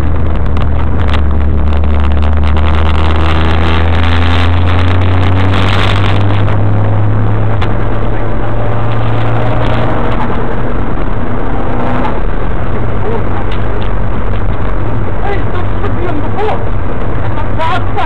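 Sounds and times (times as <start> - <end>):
car engine pulling under load: 0.0 - 18.0
road and wind noise: 0.0 - 18.0.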